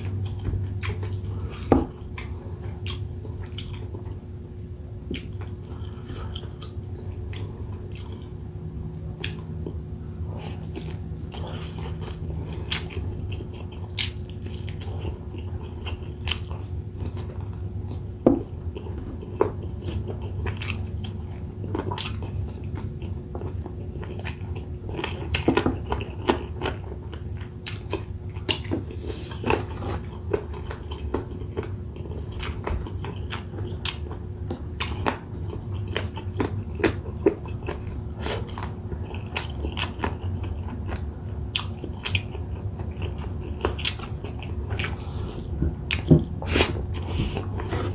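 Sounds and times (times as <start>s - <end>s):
person biting and chewing: 0.0s - 4.0s, 10.4s - 18.1s, 18.8s - 47.9s
steady low hum: 0.0s - 47.9s.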